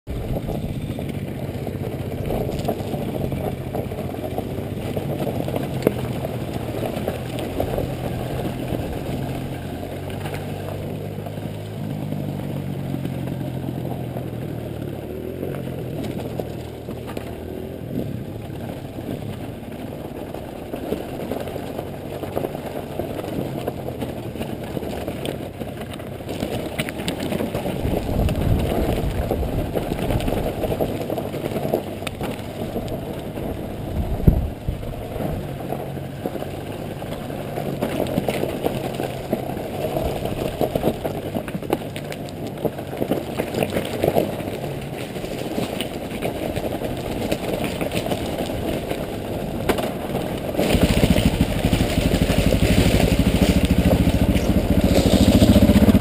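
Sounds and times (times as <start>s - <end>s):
dirt bike engine running: 0.1s - 56.0s
rattling over rocks: 0.1s - 56.0s.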